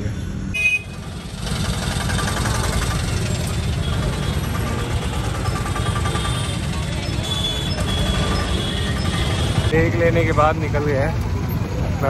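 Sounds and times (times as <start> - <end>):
street traffic: 0.0 - 12.0
vehicle engine idling: 0.9 - 12.0.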